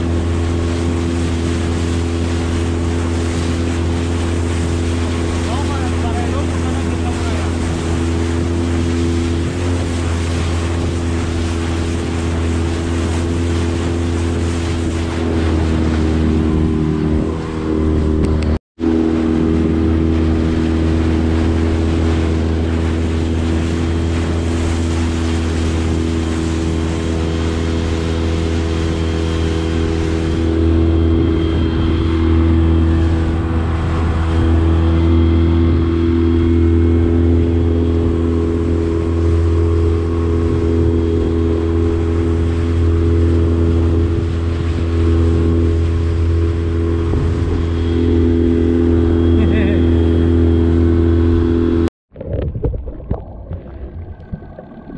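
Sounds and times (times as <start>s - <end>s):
outboard motor running: 0.0s - 54.9s
water rushing past hull: 0.0s - 54.9s.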